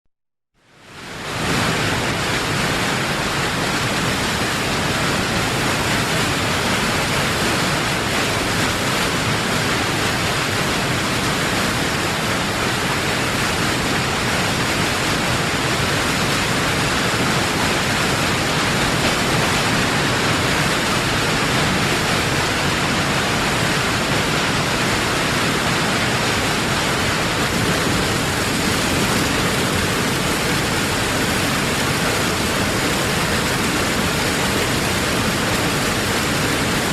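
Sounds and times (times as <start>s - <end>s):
heavy waterfall rushing: 0.6s - 36.9s.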